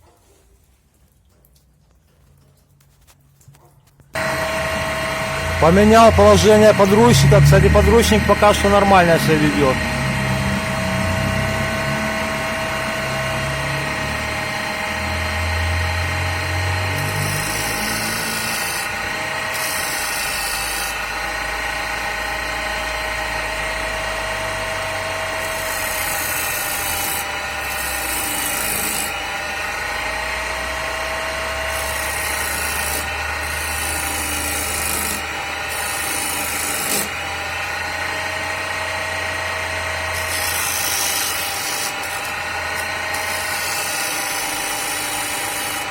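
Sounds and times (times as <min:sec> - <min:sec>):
chisel cutting spinning wood: 0:04.2 - 0:45.9
lathe motor hum and whine: 0:04.2 - 0:45.9.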